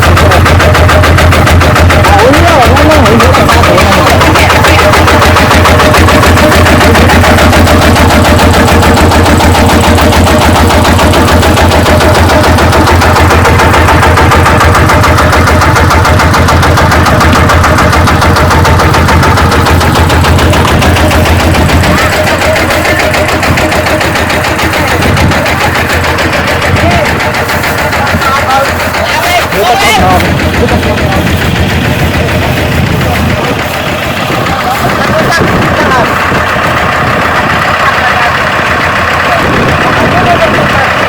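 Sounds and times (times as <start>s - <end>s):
combine harvester diesel engine: 0.0s - 41.0s.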